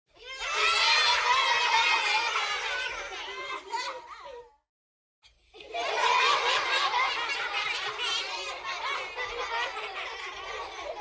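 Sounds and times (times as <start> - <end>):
children laughing: 0.2 - 4.5, 5.5 - 11.0.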